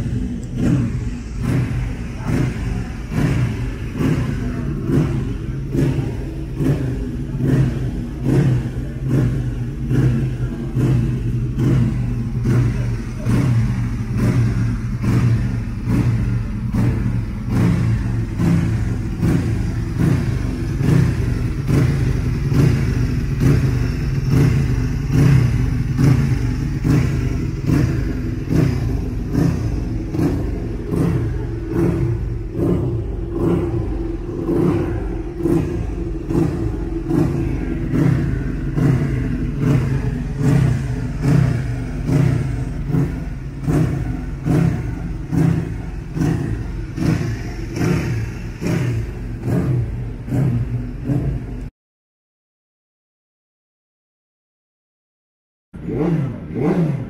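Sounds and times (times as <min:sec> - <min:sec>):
motorcycle engine revving: 0:00.0 - 0:51.7, 0:55.8 - 0:57.0.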